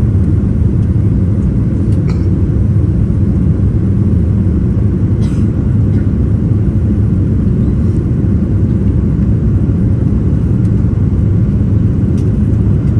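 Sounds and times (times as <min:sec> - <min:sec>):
jet engines rumbling in cabin: 0:00.0 - 0:12.9.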